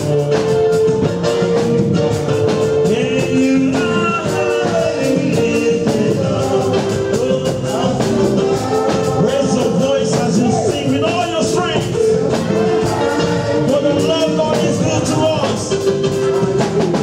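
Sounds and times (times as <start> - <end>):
steady beat: 0.0 - 17.0
voices singing: 2.5 - 17.0.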